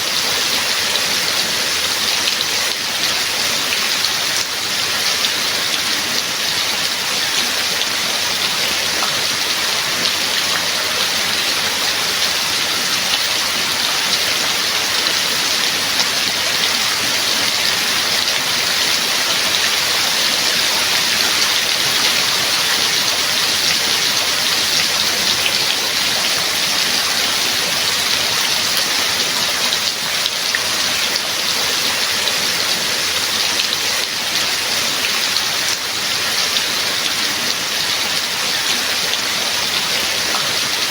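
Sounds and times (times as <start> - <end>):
raindrops pattering on a surface: 0.0 - 40.9.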